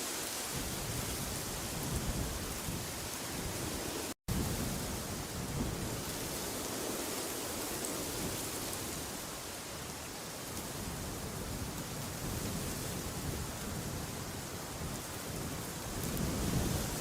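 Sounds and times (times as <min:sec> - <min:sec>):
wind blowing with deep rumble: 0:00.5 - 0:17.0.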